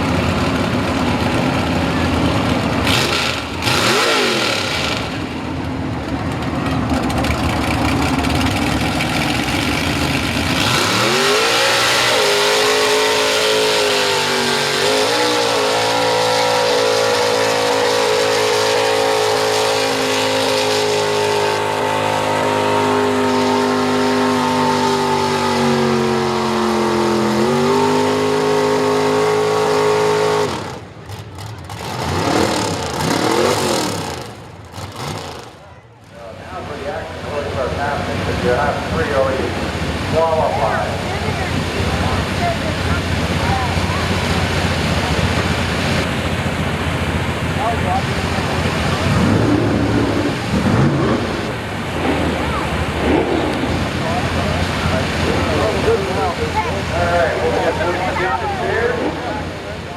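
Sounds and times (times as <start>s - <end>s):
truck engine at full throttle: 0.0s - 59.9s.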